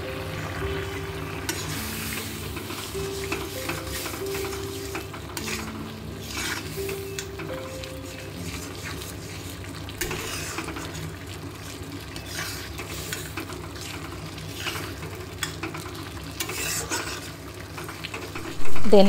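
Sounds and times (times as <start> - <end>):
oil sizzling: 0.0 - 19.0
metal spatula scraping a wok: 1.5 - 17.4.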